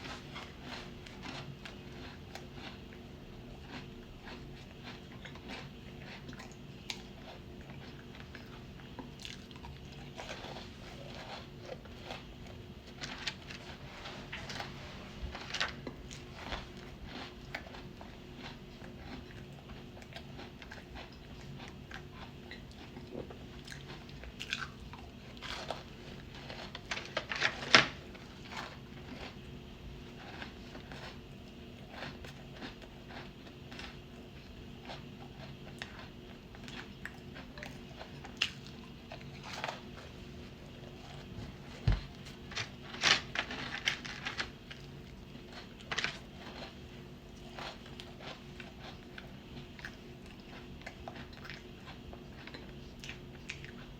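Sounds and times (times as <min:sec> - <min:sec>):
chewing and crunching cookies: 0:00.0 - 0:53.9
faint steady hum: 0:00.0 - 0:53.9.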